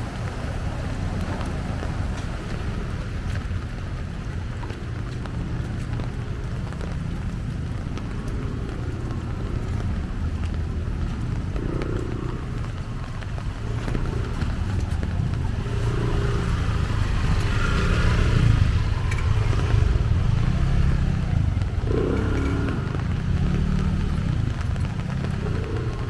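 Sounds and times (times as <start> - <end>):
vehicle engines revving and passing: 0.0 - 26.0.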